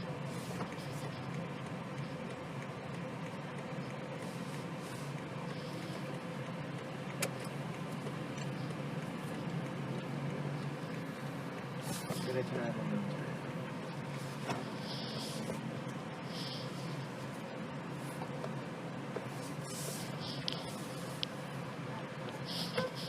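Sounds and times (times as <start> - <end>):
car cabin hum: 0.0 - 23.0.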